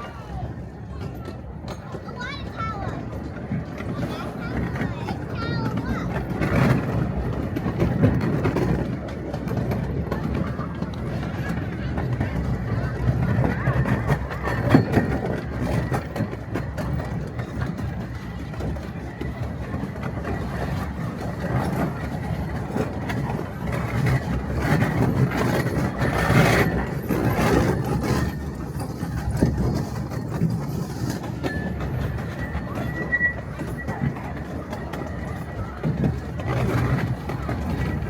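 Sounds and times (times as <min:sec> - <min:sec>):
miniature train wheels rumbling: 0:00.0 - 0:38.0.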